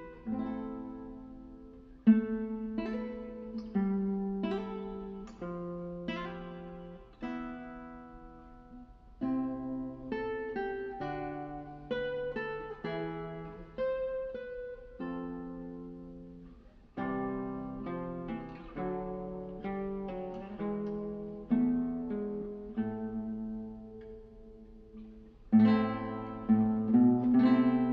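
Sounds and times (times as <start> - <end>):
acoustic guitar playing: 0.0 - 27.9.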